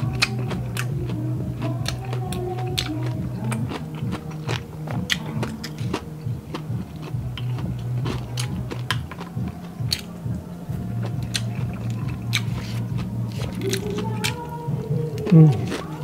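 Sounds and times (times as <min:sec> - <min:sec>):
crunching and chewing: 0:00.0 - 0:16.0
low background music: 0:00.0 - 0:16.0.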